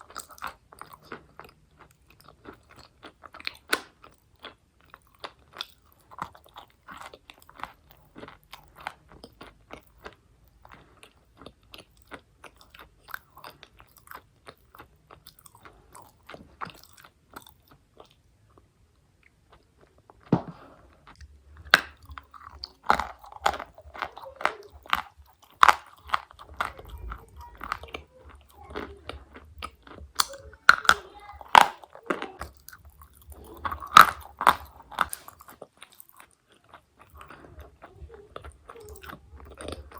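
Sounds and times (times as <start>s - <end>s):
person chewing chalk crunching: 0.0s - 39.9s.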